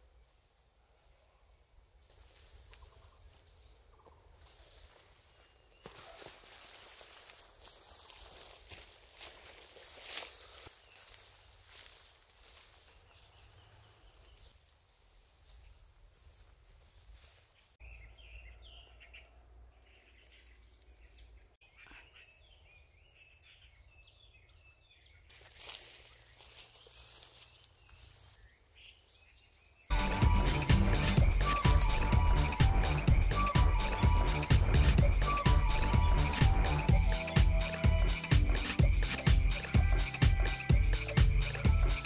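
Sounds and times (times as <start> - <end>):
birds chirping: 2.6 - 15.8, 17.5 - 42.0.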